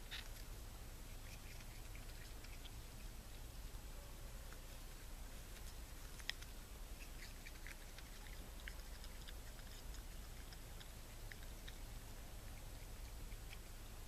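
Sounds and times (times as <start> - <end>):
raccoon crunching apple: 0.0 - 3.5, 4.5 - 14.0.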